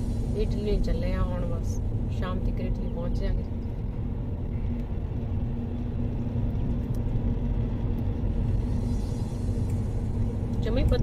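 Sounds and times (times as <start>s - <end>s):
car engine and road noise: 0.0s - 11.0s
faint steady hum: 0.0s - 11.0s.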